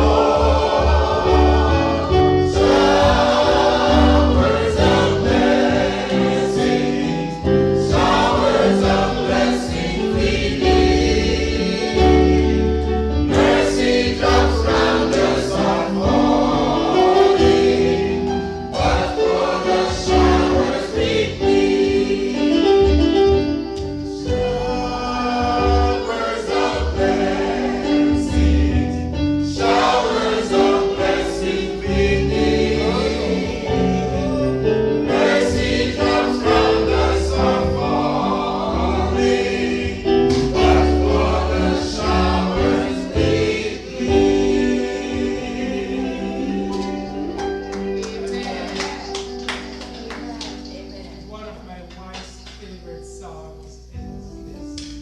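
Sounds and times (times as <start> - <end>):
choir singing a hymn: 0.0 - 51.4
instrumental accompaniment: 0.0 - 55.0.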